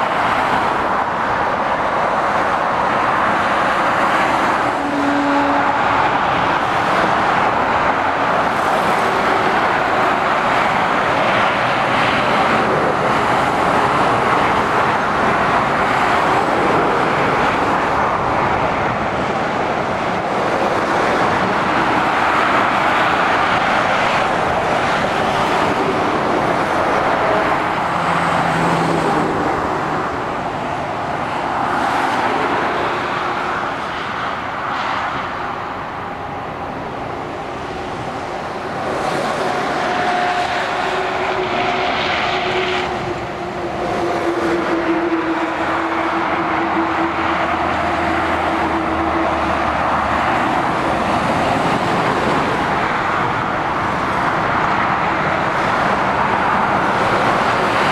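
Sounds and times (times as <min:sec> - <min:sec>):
diesel engines passing: 0:00.0 - 0:57.9.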